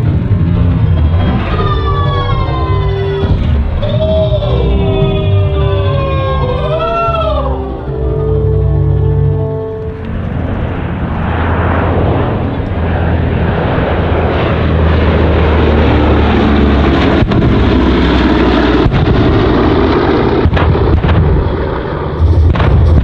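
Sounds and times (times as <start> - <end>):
pyrotechnic explosions: 0.0 - 6.1, 10.2 - 23.0
piston engines droning: 0.0 - 23.0.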